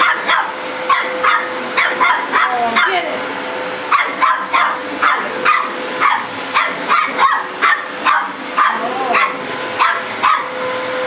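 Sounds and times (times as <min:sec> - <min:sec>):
dog barking rapidly: 0:00.0 - 0:03.1, 0:03.9 - 0:10.6
vacuum cleaner motor hum: 0:00.0 - 0:11.0.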